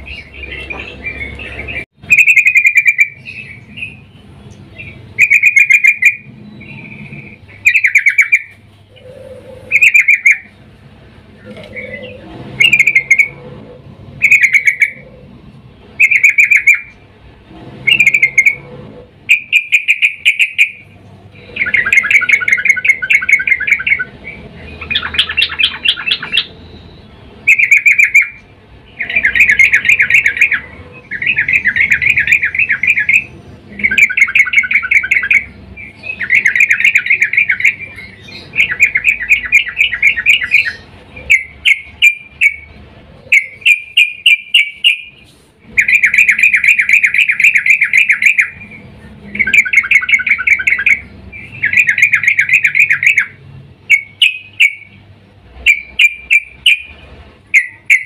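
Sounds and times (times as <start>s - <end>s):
bird chattering calls and trills: 0.0s - 58.0s.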